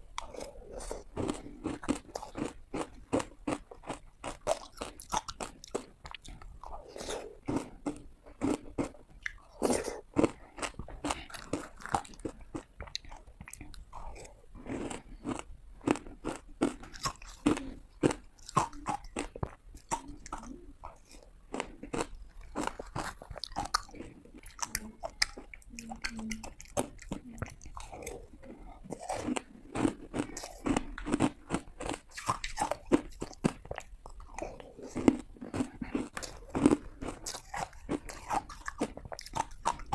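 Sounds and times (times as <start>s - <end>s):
chewing: 0.0s - 39.9s.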